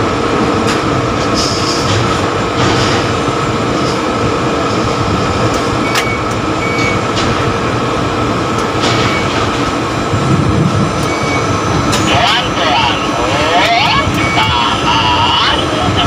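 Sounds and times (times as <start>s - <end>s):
rumbling rattling crane machinery: 0.0s - 16.0s.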